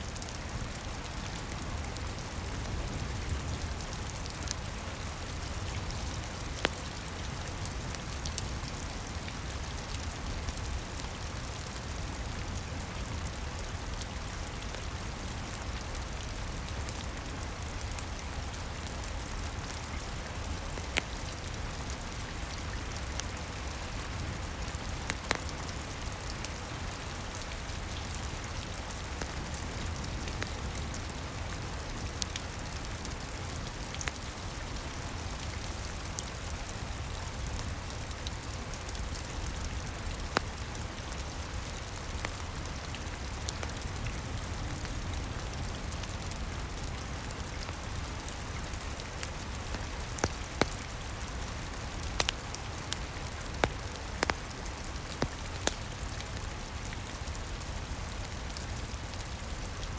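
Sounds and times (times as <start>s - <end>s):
rain on roof and window: 0.0s - 59.9s
wood fire crackling: 0.2s - 59.9s.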